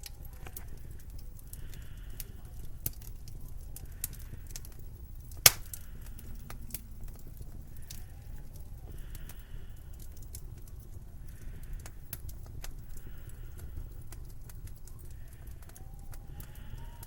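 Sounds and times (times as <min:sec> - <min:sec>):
low wind rumble: 0:00.0 - 0:17.0
sharp pops and crackles: 0:00.0 - 0:17.0.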